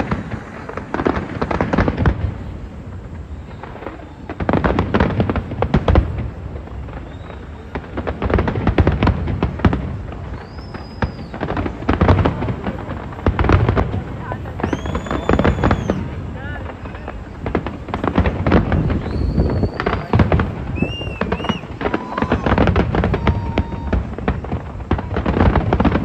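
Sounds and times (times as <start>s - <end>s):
firework whistle: 0.0s - 26.0s
fireworks bangs and crackles: 0.0s - 26.0s
low rumbling boom: 0.0s - 26.0s.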